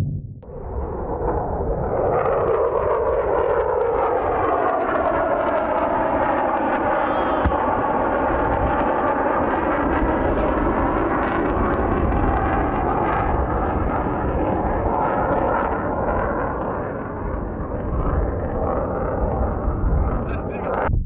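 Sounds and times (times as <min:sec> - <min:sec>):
jet roar: 0:00.0 - 0:20.9.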